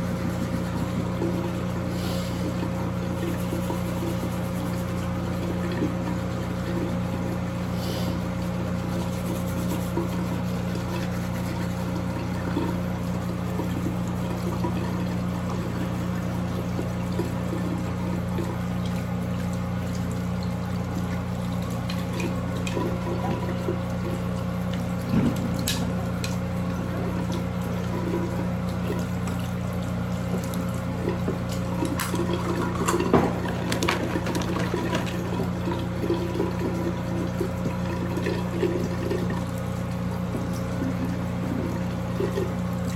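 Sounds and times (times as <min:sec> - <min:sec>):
running water: 0:00.0 - 0:42.9.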